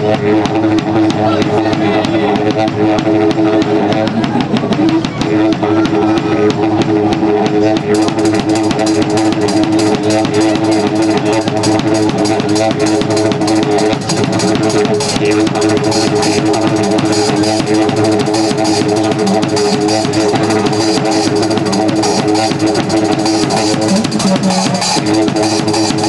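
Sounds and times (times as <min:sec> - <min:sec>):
cymbals: 0:00.0 - 0:26.0
drum kit beat: 0:00.0 - 0:26.0
live band music: 0:00.0 - 0:26.0.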